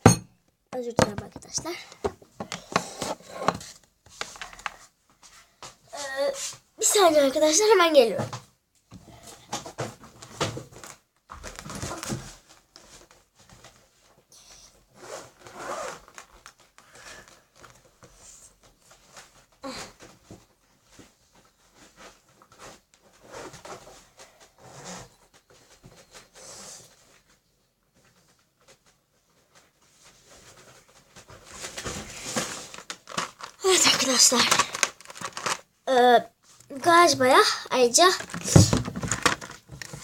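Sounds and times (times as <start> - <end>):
objects rustling and scraping: 0.9 - 40.0.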